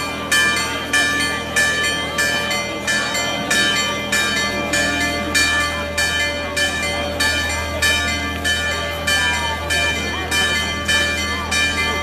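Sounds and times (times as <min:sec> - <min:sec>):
bell struck rhythmically: 0:00.0 - 0:12.0.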